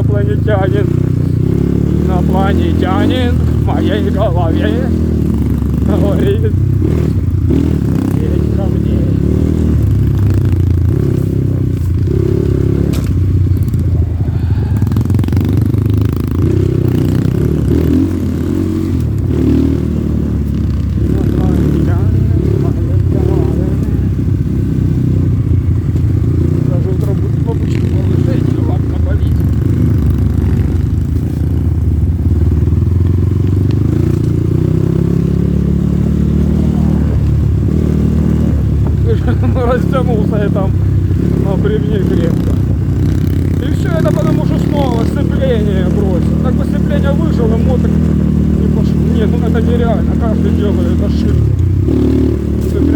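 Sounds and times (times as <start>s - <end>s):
dirt bike engine at low revs: 0.0s - 52.9s.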